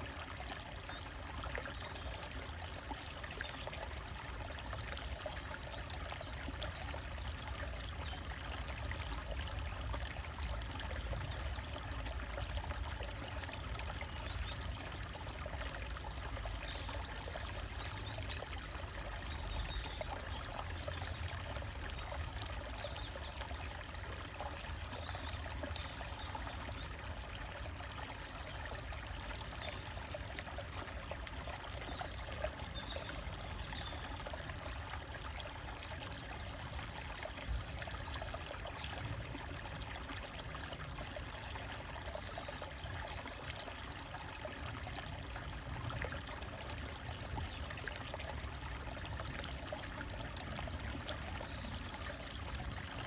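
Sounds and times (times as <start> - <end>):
stream trickling over rocks: 0.0 - 53.0.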